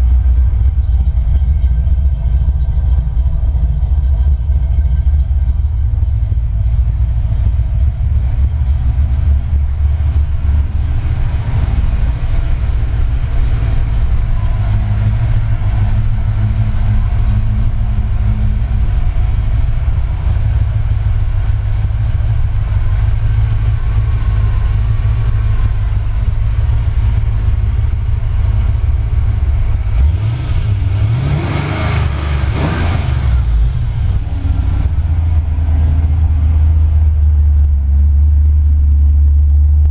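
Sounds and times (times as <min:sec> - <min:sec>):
car engine idling: 0:00.0 - 0:39.9
engine revving: 0:00.0 - 0:39.9.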